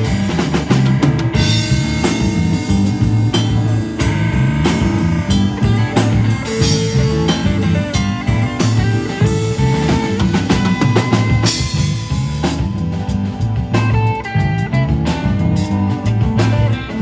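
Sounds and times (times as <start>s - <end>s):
drum kit with cymbal hits: 0.0s - 17.0s
walking bass line: 0.0s - 17.0s.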